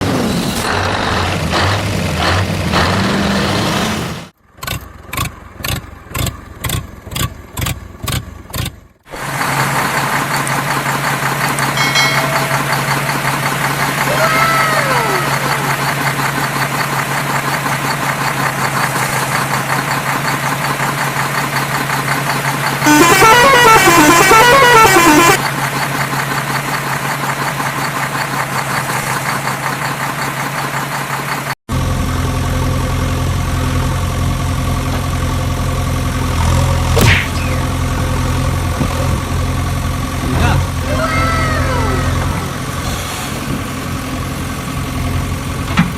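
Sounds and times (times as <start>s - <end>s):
engine idling with knocking: 4.4s - 40.3s, 43.4s - 45.9s.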